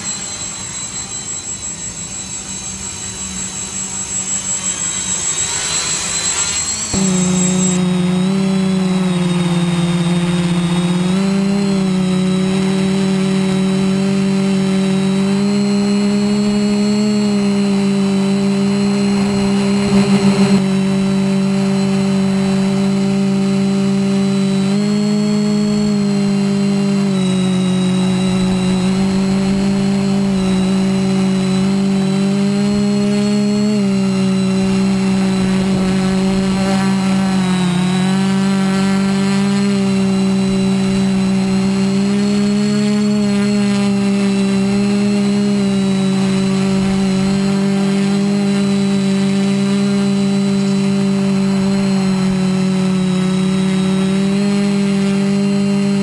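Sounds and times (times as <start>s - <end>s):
quadcopter motors whining: 0.0s - 56.0s.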